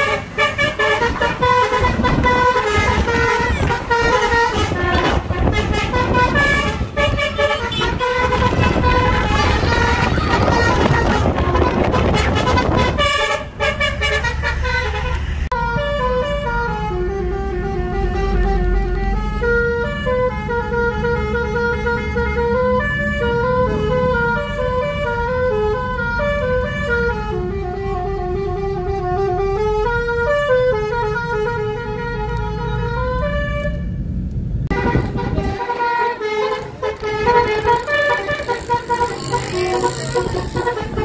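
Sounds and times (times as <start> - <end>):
multi-tone bus horn melody: 0.0 - 34.1, 34.7 - 41.0
car rumbling on road: 0.0 - 41.0.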